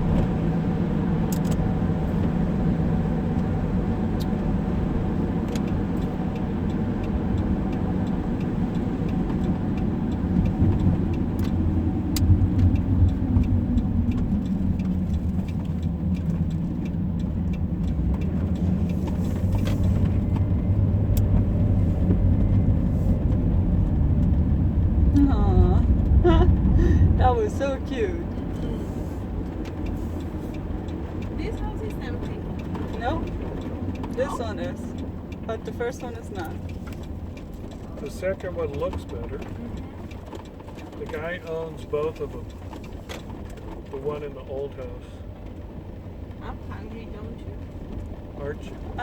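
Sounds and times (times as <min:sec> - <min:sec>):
engine and tyre rumble: 0:00.0 - 0:49.0
light ticks: 0:03.3 - 0:03.5, 0:05.2 - 0:24.9, 0:27.5 - 0:49.0.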